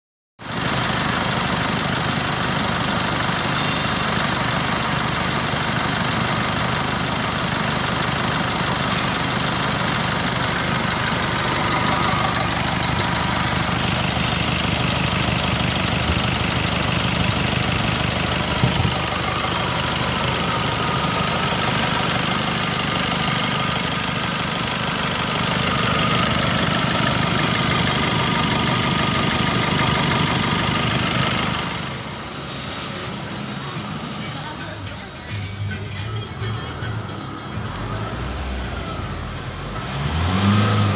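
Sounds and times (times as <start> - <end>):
diesel engine idling: 0.4 - 40.9.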